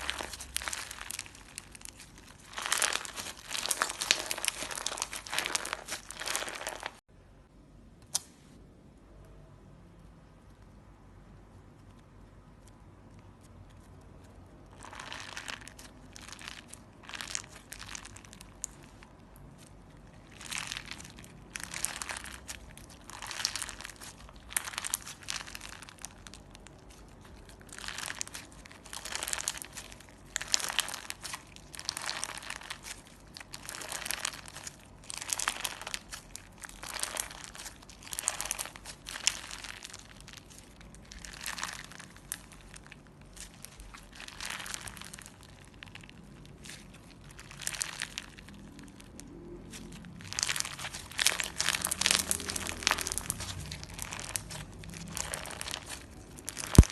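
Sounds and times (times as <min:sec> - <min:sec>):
slime squishing and crunching: 0:00.0 - 0:07.1, 0:10.2 - 0:56.9.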